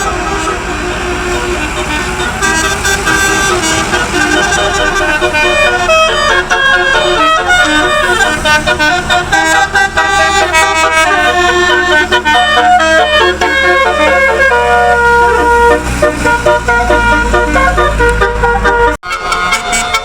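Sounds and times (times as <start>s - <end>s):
multi-tone air horns melody: 0.0s - 20.0s.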